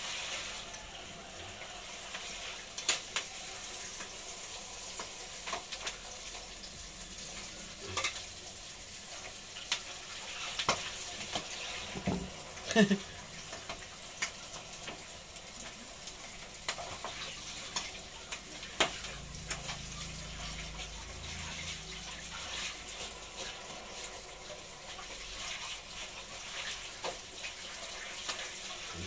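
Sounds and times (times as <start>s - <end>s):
fish frying in oil: 0.0s - 29.0s.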